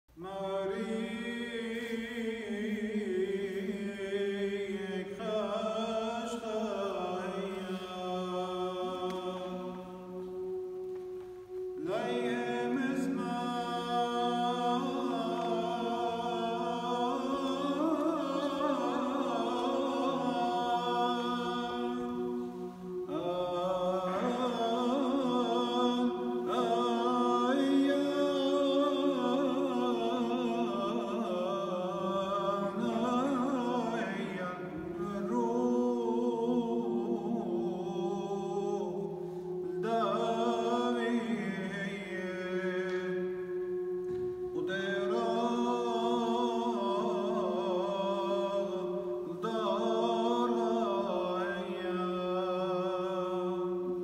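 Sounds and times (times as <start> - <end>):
man chanting a hymn: 0.1 - 43.5.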